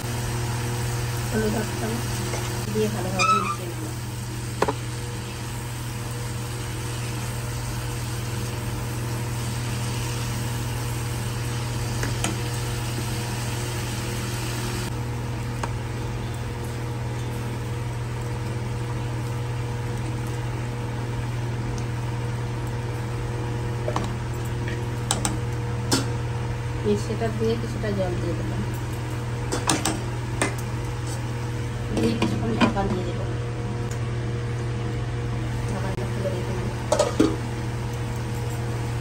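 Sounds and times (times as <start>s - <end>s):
vegetables sizzling in a pan: 0.0s - 32.8s.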